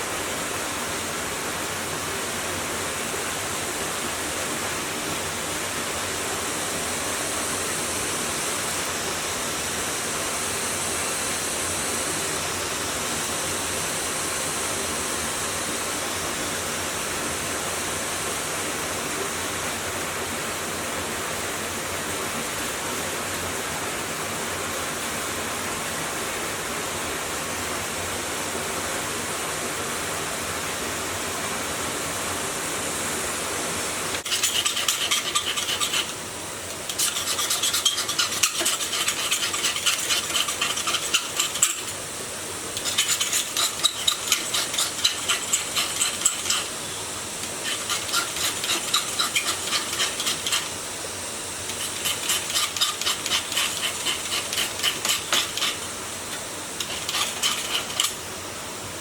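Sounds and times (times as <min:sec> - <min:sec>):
steady rushing hiss: 0:00.0 - 0:59.0.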